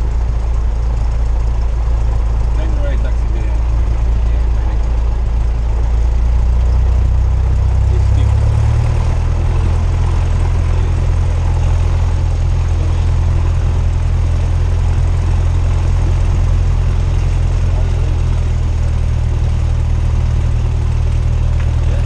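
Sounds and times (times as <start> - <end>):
airplane engine and propeller droning: 0.0 - 22.0.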